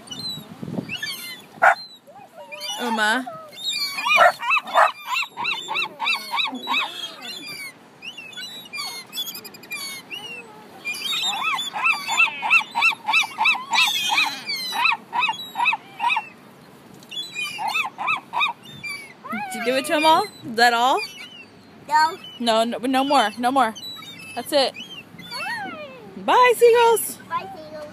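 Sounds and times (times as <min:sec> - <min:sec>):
gulls calling: 0:00.0 - 0:27.9.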